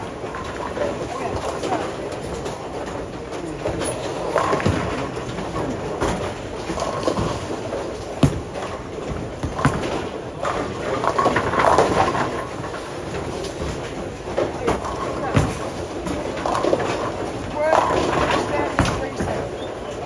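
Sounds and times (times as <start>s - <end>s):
bowling balls rolling: 0.0s - 20.0s
bowling pins clattering: 0.0s - 20.0s.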